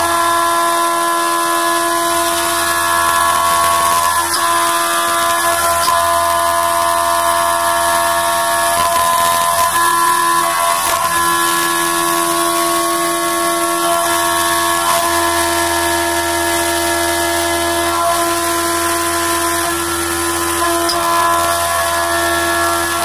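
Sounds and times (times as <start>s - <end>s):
milling machine spindle whine: 0.0s - 23.0s.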